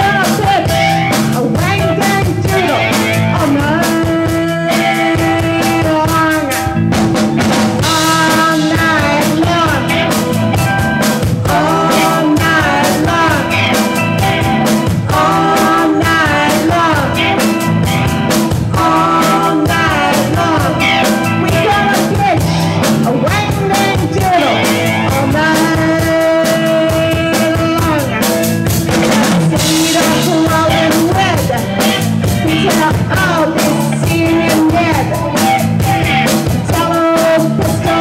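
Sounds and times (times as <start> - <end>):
woman singing into microphone: 0.0 - 6.8, 7.8 - 10.2, 11.4 - 13.9, 14.8 - 17.6, 18.6 - 28.2, 29.0 - 38.0
bass guitar: 0.0 - 38.0
drums with steady beat: 0.0 - 38.0
electric guitars: 0.0 - 38.0.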